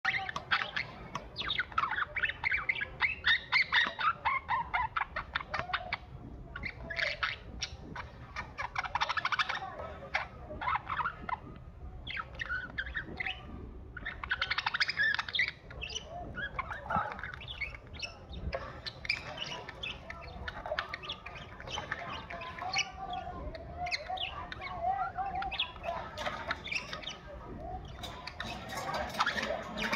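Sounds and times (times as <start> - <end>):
budgerigars chirping and chattering: 0.1 - 29.9.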